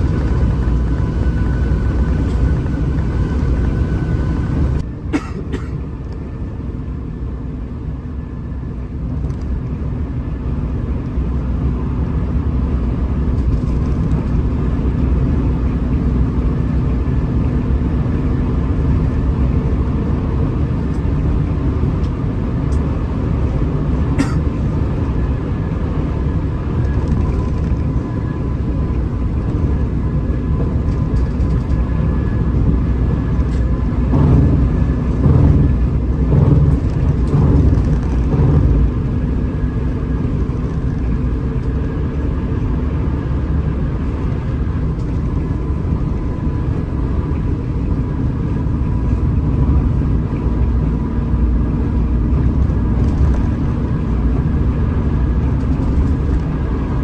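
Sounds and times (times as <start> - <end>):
bus engine and road noise: 0.0 - 57.0.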